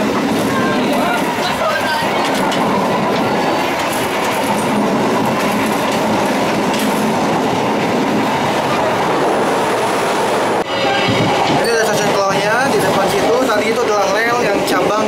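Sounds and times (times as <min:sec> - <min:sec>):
train carriages rumbling and rattling: 0:00.0 - 0:15.0
wheels clacking over rail joints: 0:00.0 - 0:15.0.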